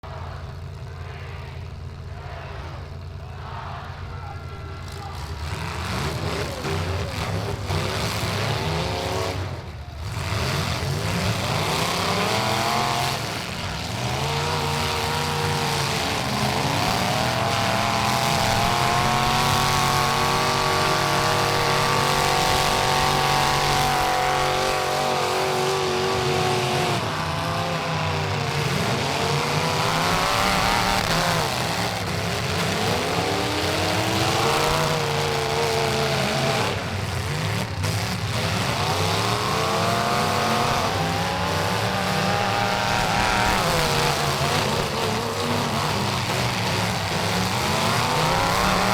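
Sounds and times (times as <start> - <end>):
truck engines racing: 0.0 - 48.9.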